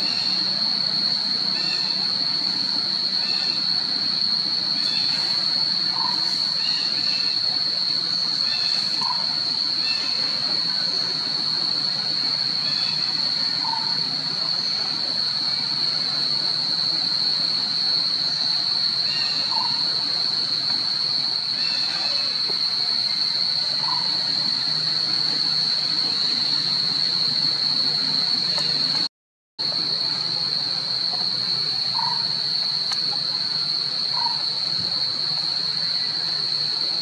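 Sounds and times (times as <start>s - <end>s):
cicadas droning: 0.0s - 37.0s.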